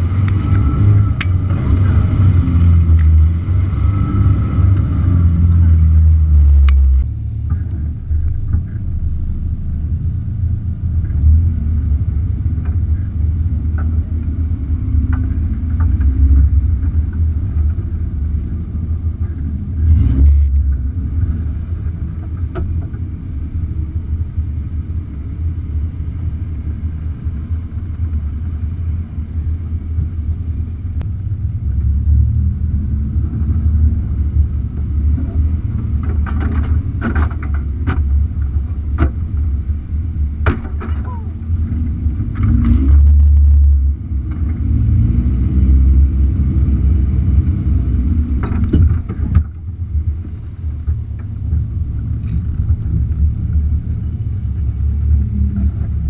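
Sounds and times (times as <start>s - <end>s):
engine low steady rumble: 0.0s - 56.0s.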